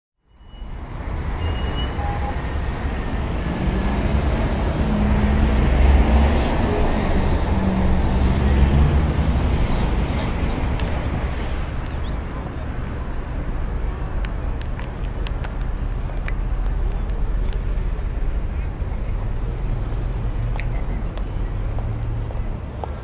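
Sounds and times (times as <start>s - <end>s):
vehicle engine rumbling: 0.7s - 23.0s.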